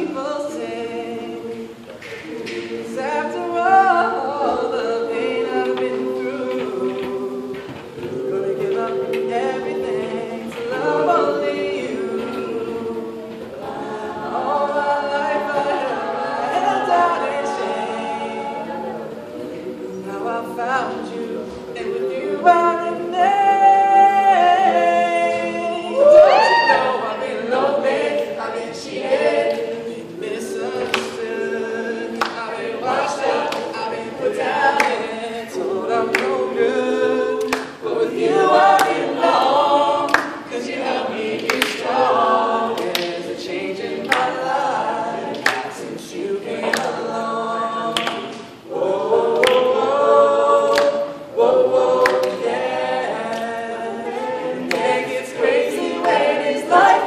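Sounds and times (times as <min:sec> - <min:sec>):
mixed a cappella group singing: 0:00.0 - 0:57.0.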